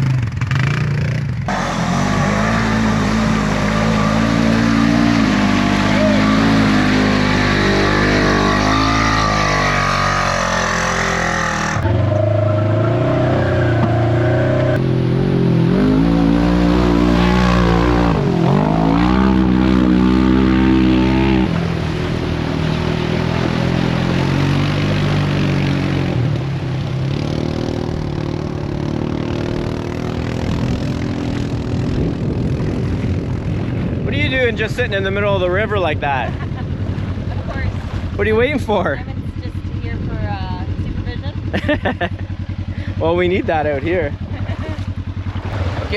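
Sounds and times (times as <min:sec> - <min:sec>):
off-road vehicle engine revving: 0:00.0 - 0:45.9.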